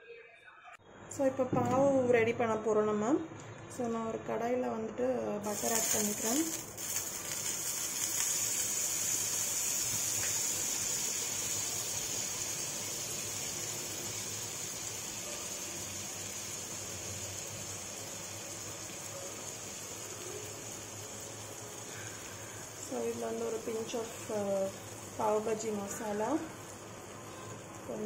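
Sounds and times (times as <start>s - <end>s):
butter sizzling on griddle: 5.4s - 28.0s.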